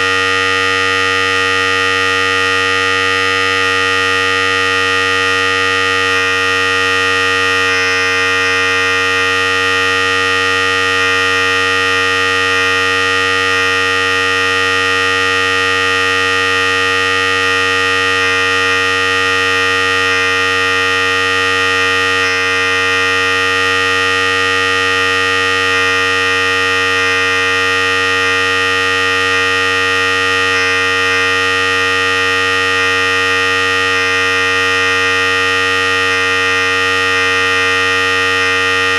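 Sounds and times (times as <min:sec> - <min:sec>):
electric hair clipper buzzing: 0:00.0 - 0:38.9.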